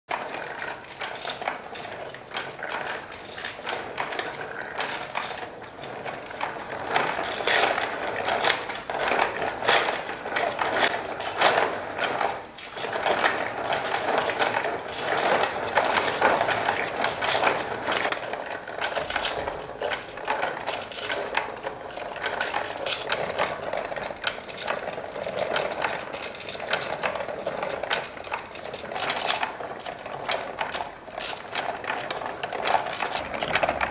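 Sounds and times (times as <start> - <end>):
wooden gears clicking and clattering: 0.1 - 33.9.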